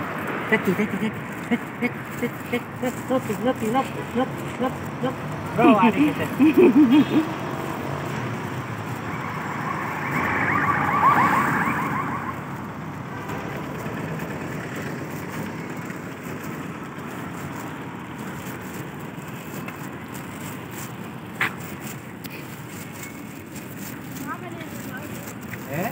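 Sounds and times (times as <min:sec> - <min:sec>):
street traffic: 0:00.0 - 0:25.9.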